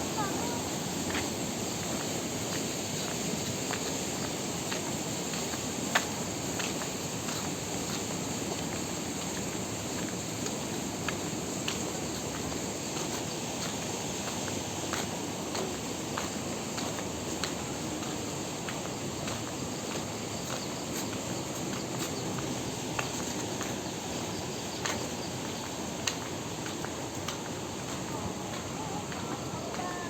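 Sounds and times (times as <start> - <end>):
constant high hiss: 0.0 - 30.0
footsteps on walkway: 0.0 - 30.0
outdoor background noise: 0.0 - 30.0.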